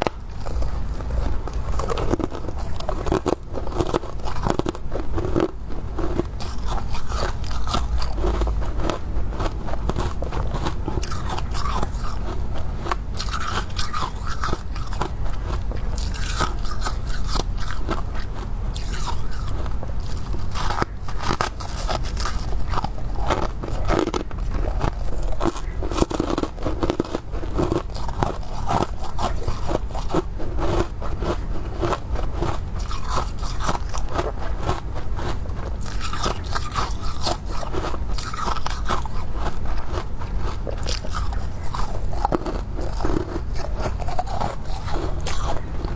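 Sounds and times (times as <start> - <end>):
crunching and chewing frost: 0.0 - 45.9.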